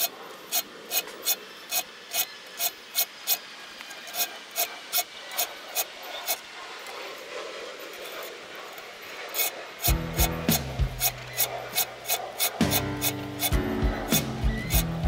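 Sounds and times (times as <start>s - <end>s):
hand file sharpening saw teeth: 0.0s - 6.4s, 9.3s - 15.0s.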